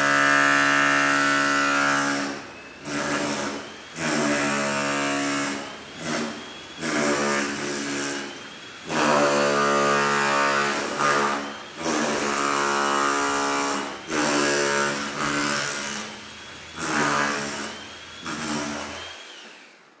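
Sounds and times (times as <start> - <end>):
circular saw motor whine: 0.6 - 20.0.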